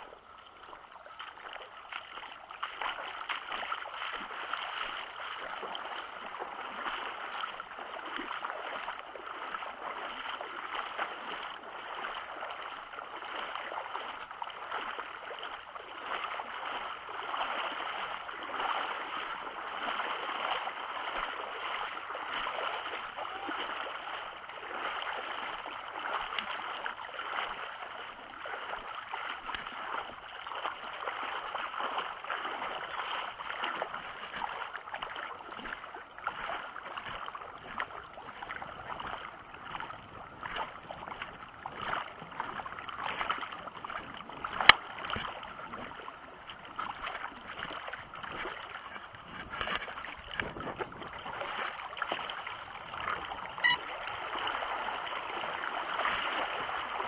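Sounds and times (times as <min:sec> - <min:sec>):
water rushing along a boat hull: 0:00.0 - 0:57.0.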